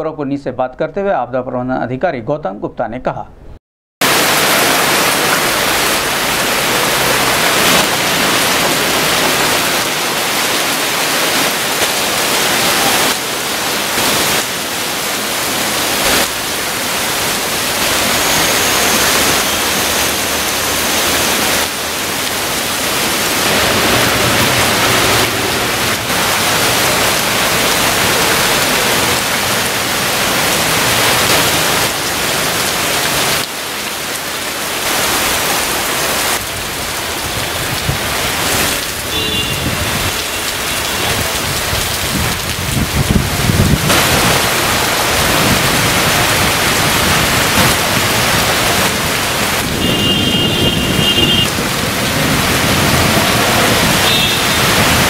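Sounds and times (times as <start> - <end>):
heavy rain on road: 4.0 - 55.0.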